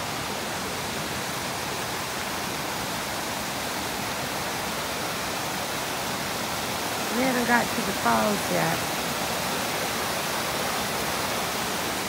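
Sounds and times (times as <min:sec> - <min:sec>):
creek rapids rushing over rocks: 0:00.0 - 0:12.0.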